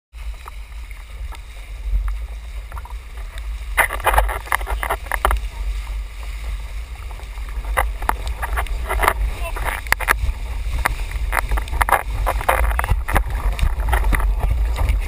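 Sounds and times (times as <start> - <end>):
wind and rushing water: 0.1 - 15.0
water splashes and slaps: 0.2 - 15.0.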